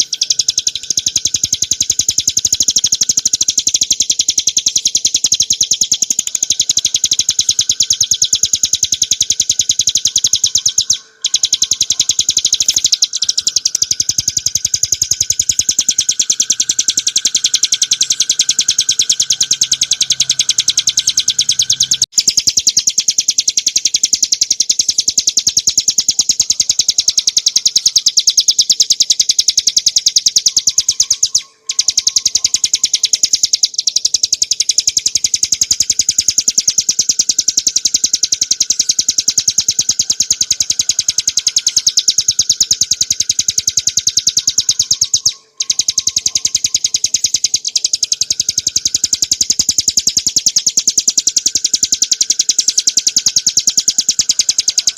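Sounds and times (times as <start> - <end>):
bird singing rapid high trill: 0.0 - 54.9.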